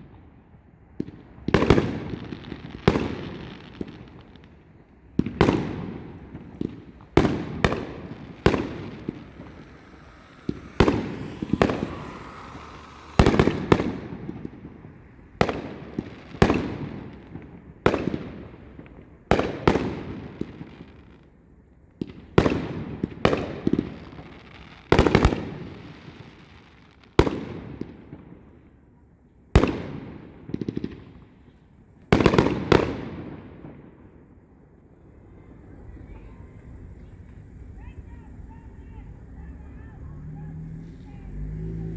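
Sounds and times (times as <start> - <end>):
fireworks banging with echo: 0.0 - 28.8, 29.6 - 31.4, 32.1 - 40.2.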